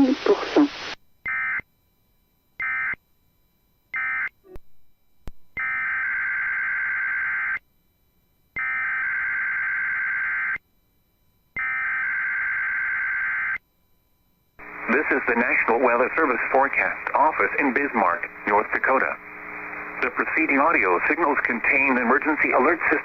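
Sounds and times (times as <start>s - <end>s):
harsh buzzing data tones: 0.0s - 10.7s, 11.4s - 23.0s.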